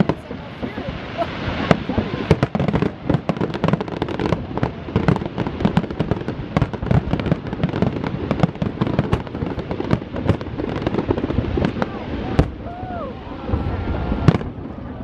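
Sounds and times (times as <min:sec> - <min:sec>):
firework bangs: 0:00.0 - 0:15.0
firework crackle: 0:00.0 - 0:15.0.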